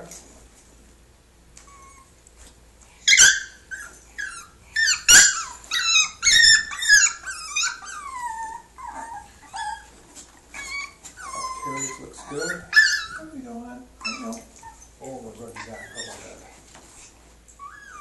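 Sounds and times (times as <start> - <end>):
puppy whining and yelping: 1.6 - 2.3, 3.0 - 13.4, 14.0 - 15.0, 15.6 - 18.0.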